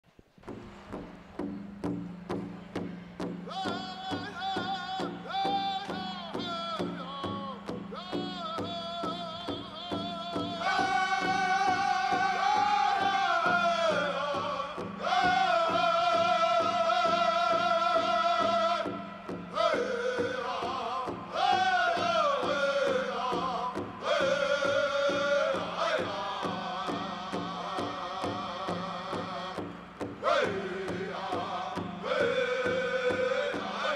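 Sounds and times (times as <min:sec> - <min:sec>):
steady drumbeat on big drum: 0:00.4 - 0:33.9
men singing high long notes: 0:03.4 - 0:33.9.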